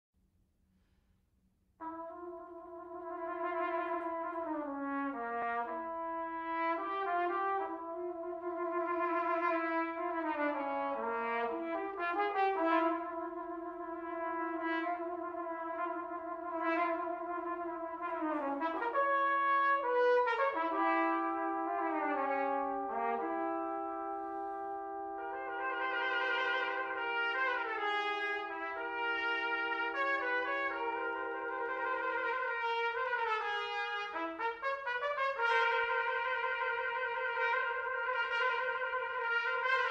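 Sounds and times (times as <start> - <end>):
brass ensemble playing chords: 1.8 - 39.9.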